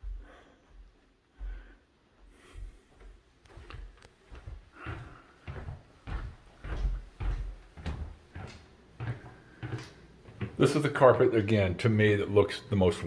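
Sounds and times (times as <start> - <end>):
footsteps walking: 0.0 - 11.7.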